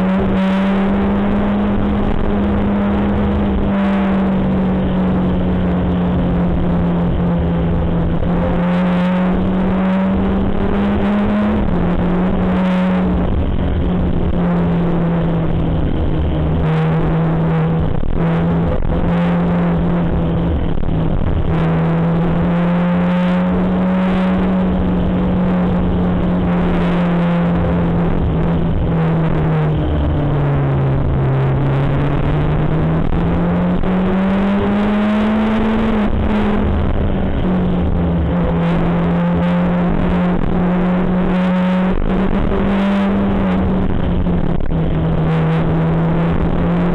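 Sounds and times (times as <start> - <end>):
motorcycle engine running: 0.0 - 46.9
wind and road rush: 0.0 - 46.9.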